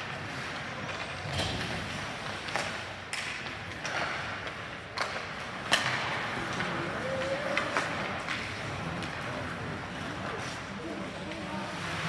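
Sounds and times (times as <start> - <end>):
hockey sticks and puck clacking: 0.0 - 12.0
skates scraping ice: 0.0 - 12.0.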